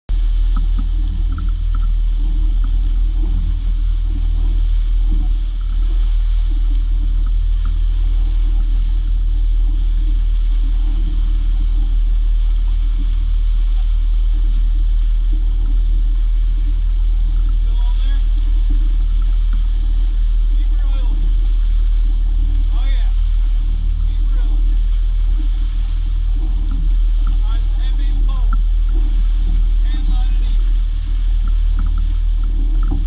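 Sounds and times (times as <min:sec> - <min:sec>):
outboard motor running: 0:00.1 - 0:33.0
water rushing from wake: 0:00.1 - 0:33.0.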